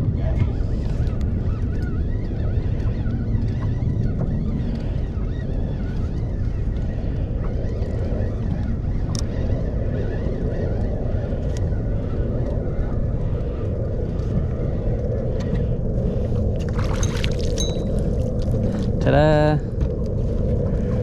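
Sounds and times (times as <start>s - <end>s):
boat low rumble: 0.0s - 21.0s.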